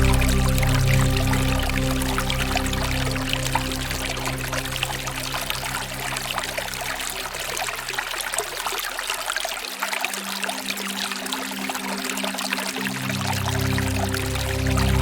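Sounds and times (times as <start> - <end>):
soft background music: 0.0 - 15.0
waterfall pouring and splashing: 0.0 - 15.0.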